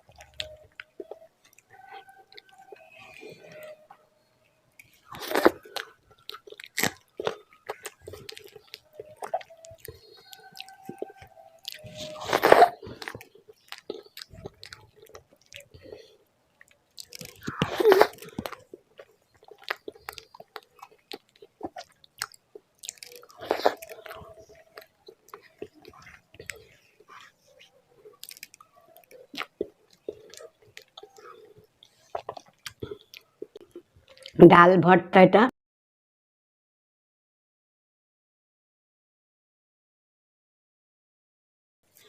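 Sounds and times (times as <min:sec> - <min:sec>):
person chewing food: 0:00.0 - 0:04.1, 0:04.7 - 0:34.4.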